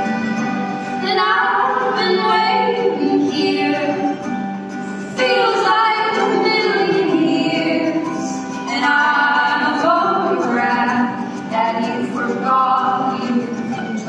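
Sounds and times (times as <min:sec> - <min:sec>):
guitar accompaniment: 0:00.0 - 0:14.0
women singing: 0:01.0 - 0:04.3, 0:05.0 - 0:14.0.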